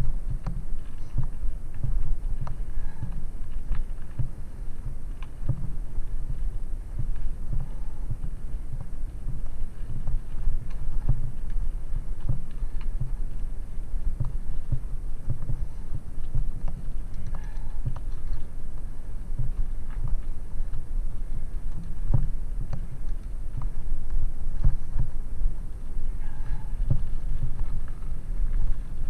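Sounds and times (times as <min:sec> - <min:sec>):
bicycle rattles and knocks: 0:00.0 - 0:29.0
wind buffeting camera: 0:00.0 - 0:29.0.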